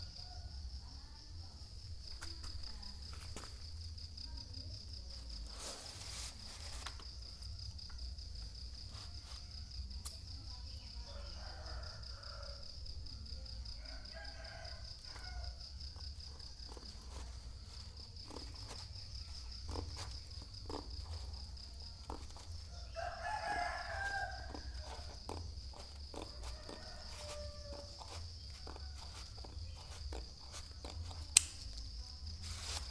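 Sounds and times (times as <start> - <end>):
insect trill: 0.0 - 32.9.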